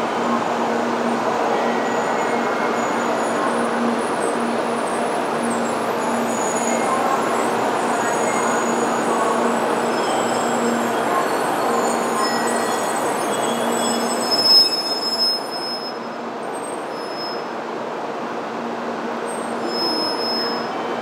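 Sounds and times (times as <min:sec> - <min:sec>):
train carriage rumble and hum: 0:00.0 - 0:21.0.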